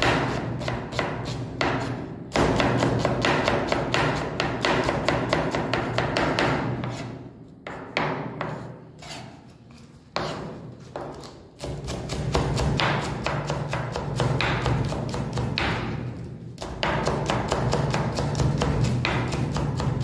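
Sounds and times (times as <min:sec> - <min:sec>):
knife chopping on wooden board: 0:00.0 - 0:07.1, 0:07.7 - 0:09.2, 0:10.2 - 0:20.0.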